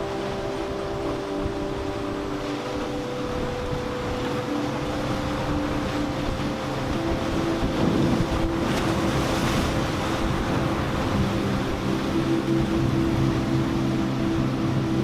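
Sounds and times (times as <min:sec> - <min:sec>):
boat engines droning: 0:00.0 - 0:15.0
water noise: 0:00.0 - 0:15.0
wind: 0:00.0 - 0:15.0.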